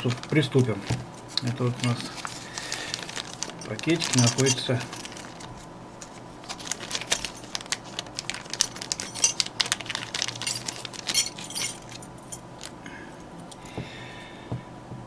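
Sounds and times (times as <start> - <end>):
plastic packet rustling: 0.0 - 12.8
small metal parts clinking: 1.4 - 13.7.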